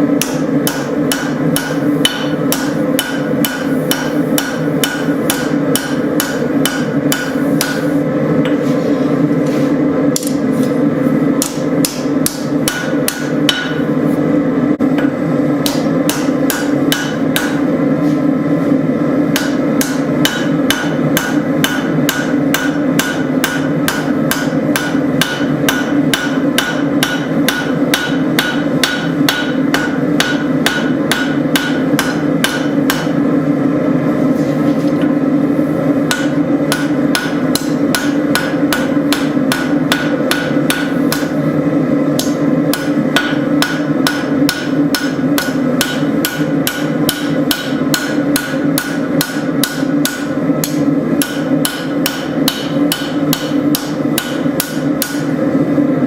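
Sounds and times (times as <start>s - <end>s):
hammer striking steel on anvil: 0.2s - 8.6s, 11.4s - 13.9s, 15.0s - 17.7s, 19.3s - 33.2s, 36.0s - 41.4s, 42.1s - 55.4s.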